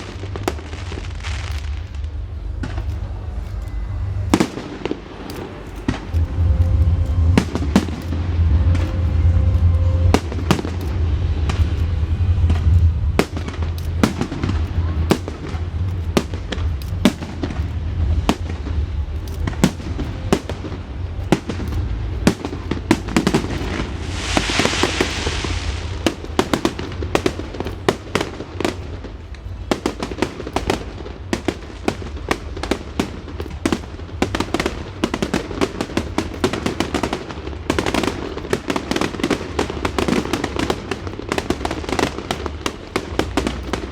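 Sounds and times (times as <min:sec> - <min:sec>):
deep fireworks booms: 0:00.0 - 0:43.9
fireworks cracks and bangs: 0:00.0 - 0:43.9
hissing crackle: 0:00.0 - 0:43.9.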